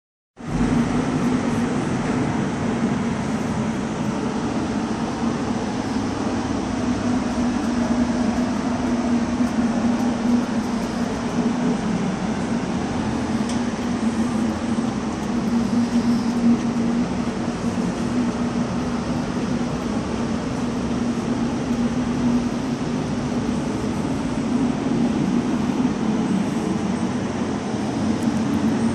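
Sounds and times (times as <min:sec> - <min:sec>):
machinery humming: 0:00.4 - 0:28.9.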